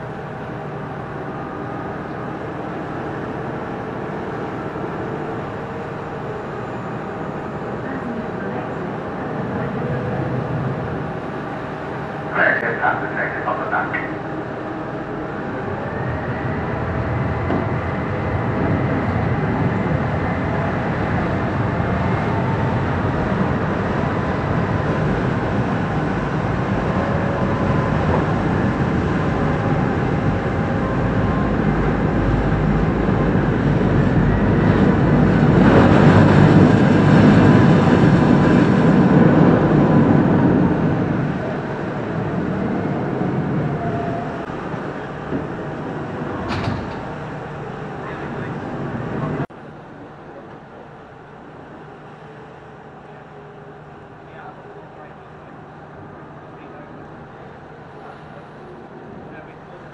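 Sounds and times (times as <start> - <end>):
boat diesel engines droning: 0.0 - 59.9.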